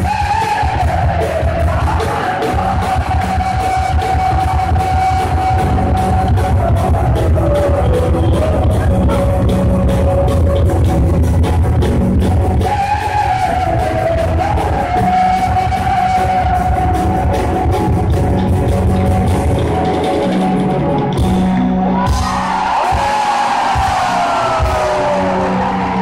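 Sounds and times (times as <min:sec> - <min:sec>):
drums: 0:00.0 - 0:26.0
live band playing: 0:00.0 - 0:26.0.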